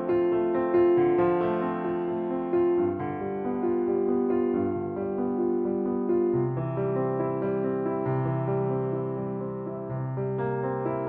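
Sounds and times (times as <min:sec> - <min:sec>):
piano-like keyboard chords: 0:00.0 - 0:11.0.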